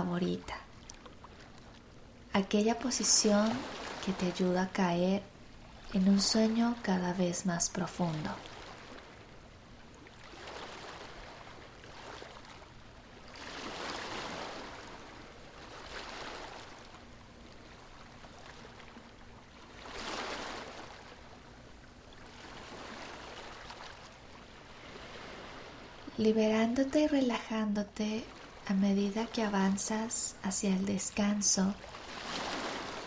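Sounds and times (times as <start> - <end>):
ocean waves washing in: 0.0 - 33.0.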